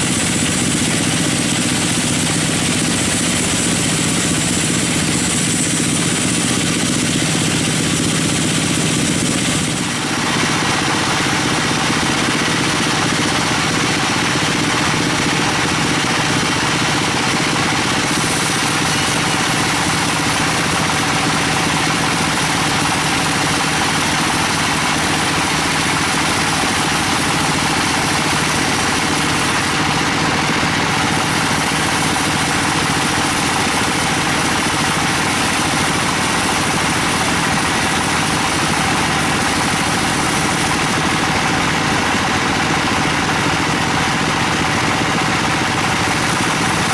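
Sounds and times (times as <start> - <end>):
harsh hissy machine noise: 0.0 - 46.9
sawmill engine drone: 0.0 - 46.9.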